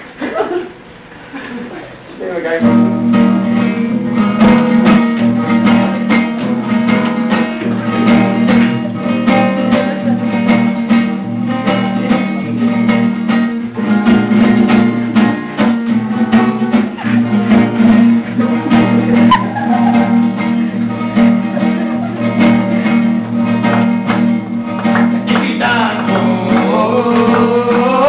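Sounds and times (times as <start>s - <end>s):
acoustic guitar strumming: 2.6s - 28.0s.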